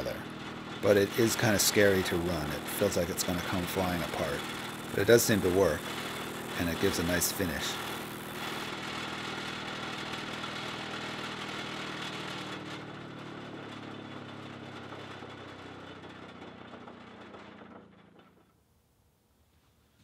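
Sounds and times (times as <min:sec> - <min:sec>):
drum sander humming: 0:00.0 - 0:18.4.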